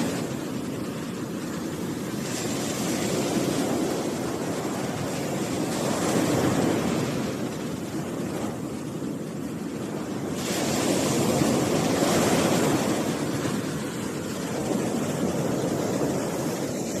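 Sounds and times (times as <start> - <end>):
big wave breaking: 0.0 - 17.0
sea surf breaking on beach: 0.0 - 17.0.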